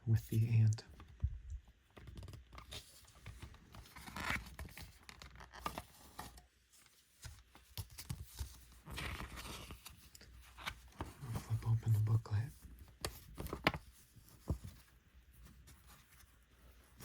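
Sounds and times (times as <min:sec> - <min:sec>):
paper rustling and scraping: 0:02.0 - 0:17.0.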